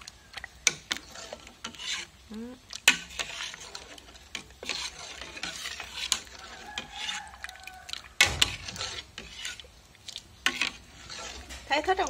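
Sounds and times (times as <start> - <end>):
metal ladle stirring in pot: 0.0 - 12.0.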